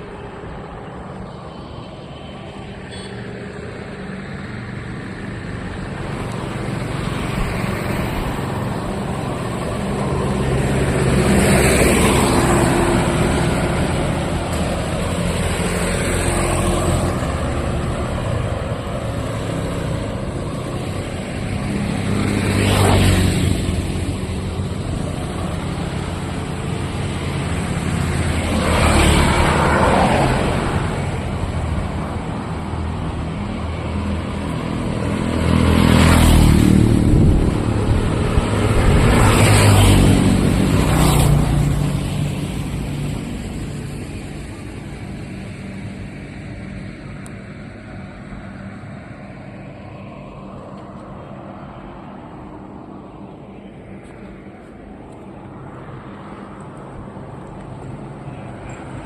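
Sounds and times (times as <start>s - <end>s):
road traffic engine rumble: 0.0s - 59.0s
vehicles passing close: 0.0s - 59.0s.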